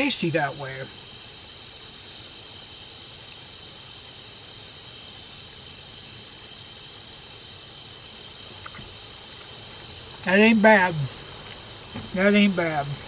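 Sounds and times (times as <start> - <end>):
crickets trilling: 0.0 - 13.0
pulsed cricket chirp: 0.0 - 13.0.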